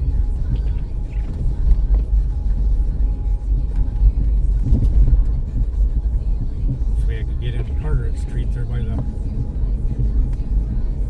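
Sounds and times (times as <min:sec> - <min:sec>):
engine and road noise in car: 0:00.0 - 0:11.0.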